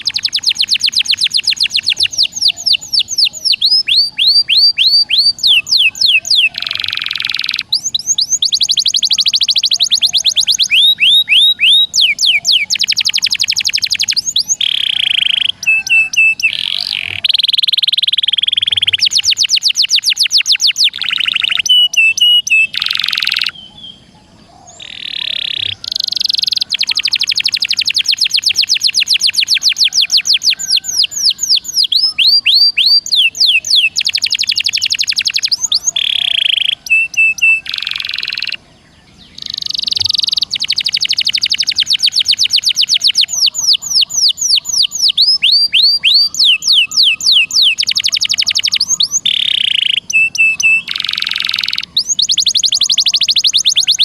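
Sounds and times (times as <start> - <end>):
songbird singing fast trills: 0.0 - 54.0.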